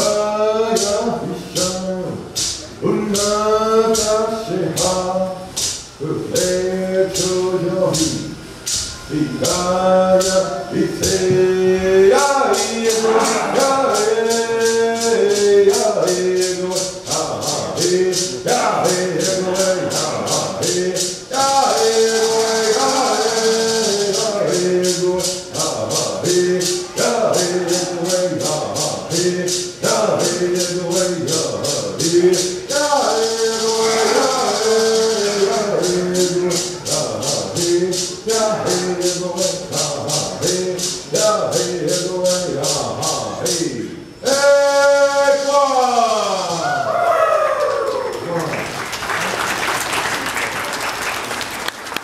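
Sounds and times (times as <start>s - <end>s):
shaken rattle beat: 0.0s - 47.0s
person singing: 0.0s - 48.5s.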